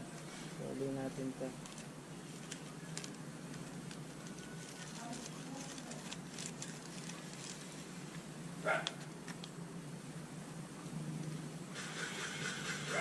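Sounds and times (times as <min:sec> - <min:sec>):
low steady hum: 0:00.0 - 0:11.8.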